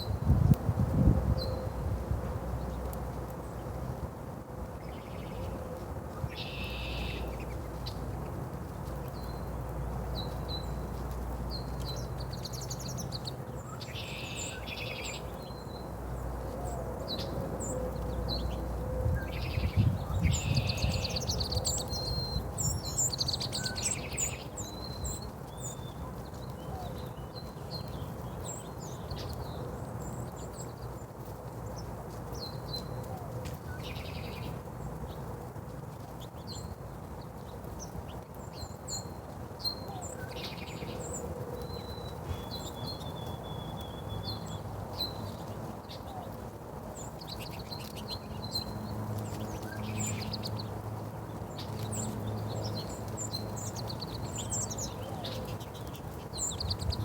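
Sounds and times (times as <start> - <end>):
small birds chirping: 4.8 - 57.0.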